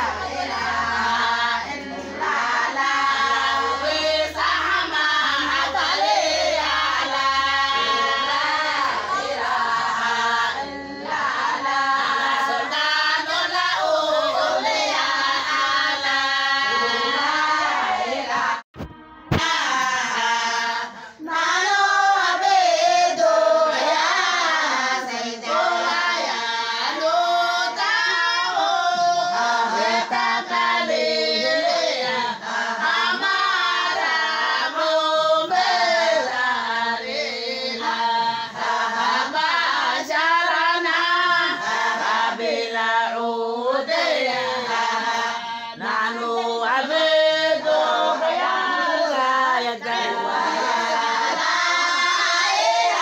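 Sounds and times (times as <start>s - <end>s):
women singing together: 0.0s - 53.0s.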